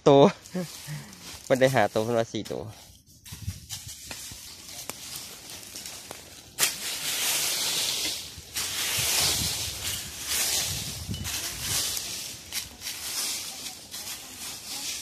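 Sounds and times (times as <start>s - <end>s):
dry leaves crunching and rustling: 0.4s - 15.0s.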